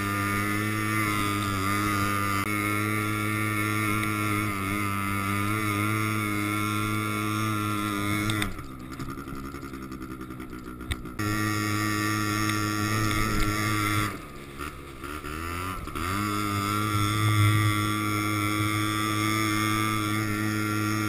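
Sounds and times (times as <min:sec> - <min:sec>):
quad bike engine under load: 0:00.0 - 0:21.0.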